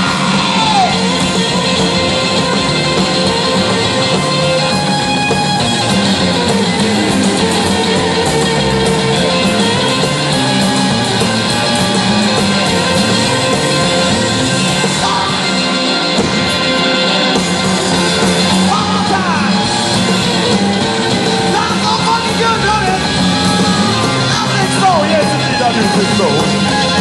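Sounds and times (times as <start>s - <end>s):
rock band playing loud: 0.0s - 27.0s
sliding guitar notes: 0.0s - 27.0s.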